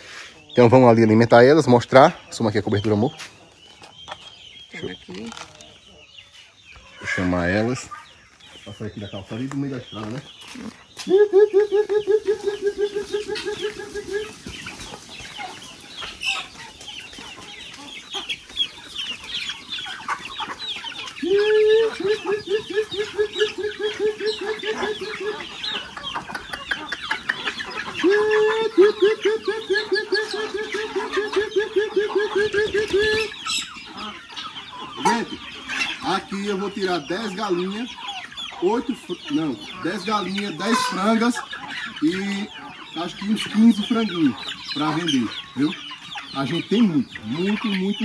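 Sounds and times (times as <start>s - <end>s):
chickens clucking and chirping: 0.0s - 48.0s
man calling chickens: 0.0s - 48.0s.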